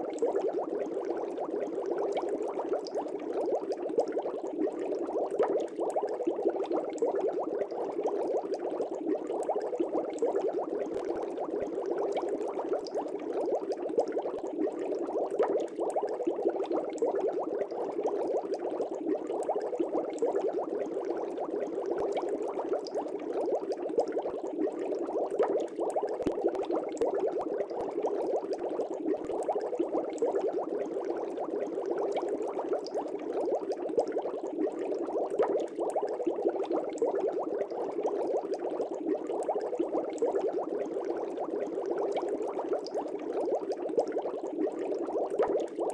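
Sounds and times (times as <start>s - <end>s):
fish tank bubbling: 0.0s - 45.9s.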